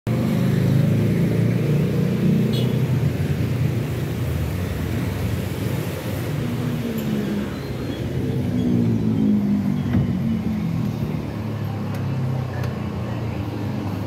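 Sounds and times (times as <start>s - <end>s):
vehicle engine rumbling: 0.1s - 14.0s.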